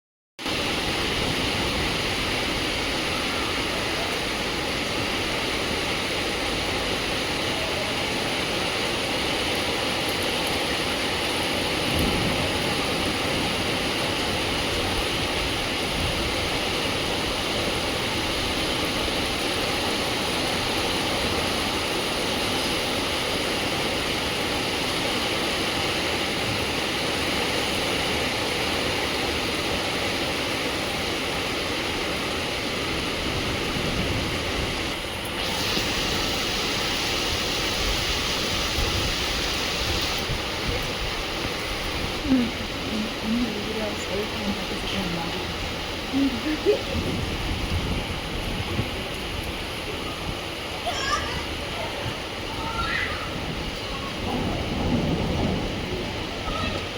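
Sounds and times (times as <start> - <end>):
heavy rain downpour: 0.4 - 56.9.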